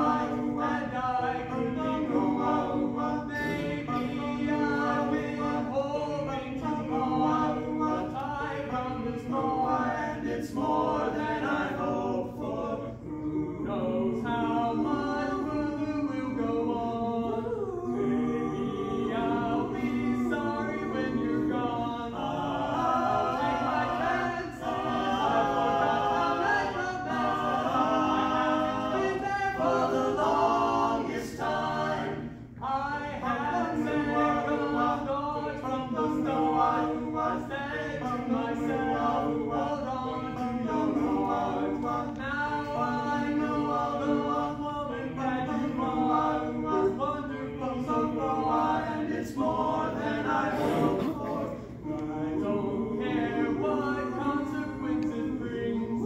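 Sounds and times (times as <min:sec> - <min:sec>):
male voices singing in harmony: 0:00.0 - 0:56.0.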